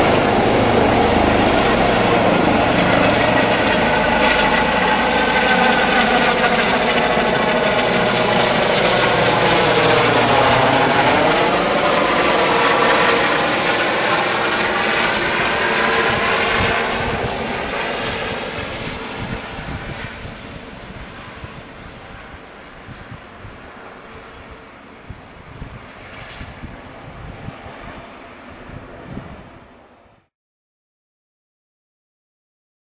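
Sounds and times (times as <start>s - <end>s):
helicopter flying overhead: 0.0s - 30.3s.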